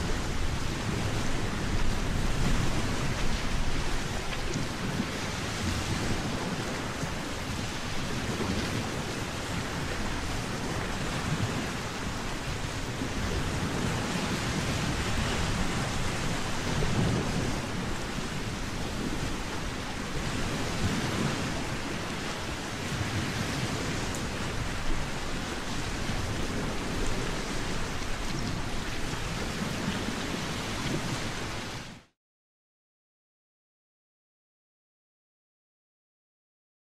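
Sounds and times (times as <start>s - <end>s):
wind blowing: 0.0s - 31.9s.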